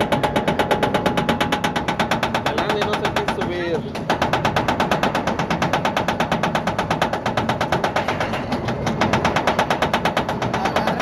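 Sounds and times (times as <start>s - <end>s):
roller coaster chain lift clacking: 0.0s - 11.0s.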